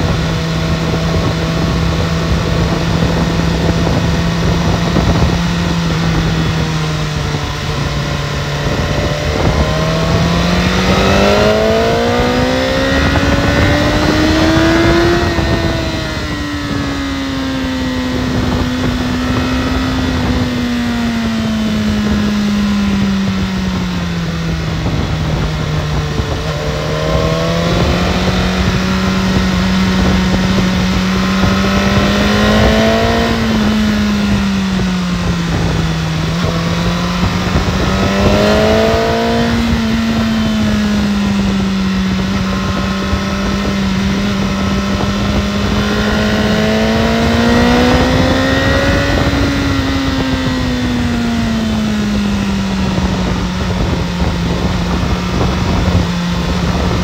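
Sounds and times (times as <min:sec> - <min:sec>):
motorcycle engine running: 0:00.0 - 0:57.0
steady rushing noise: 0:00.0 - 0:57.0.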